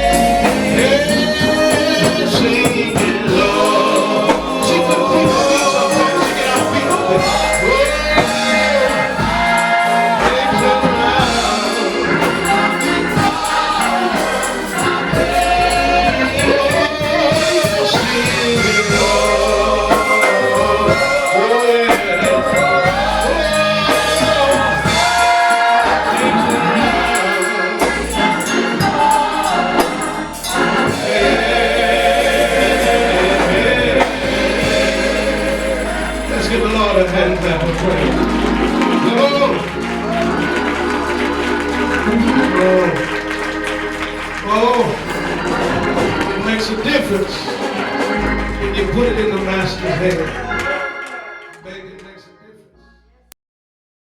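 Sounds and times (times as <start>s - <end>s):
gospel choir singing: 0.0s - 52.4s
band accompaniment: 0.0s - 53.0s.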